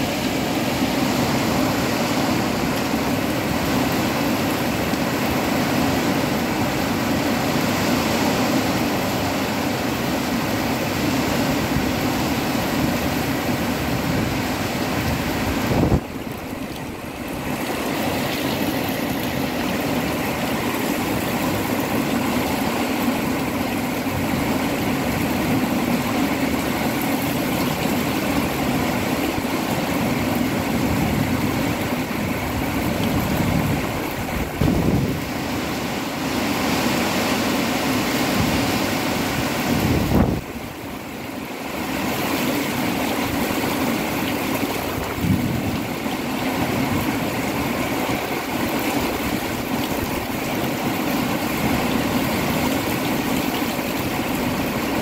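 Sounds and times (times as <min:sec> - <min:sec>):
gusty wind: 0:00.0 - 0:55.0
heavy rain falling: 0:00.0 - 0:55.0.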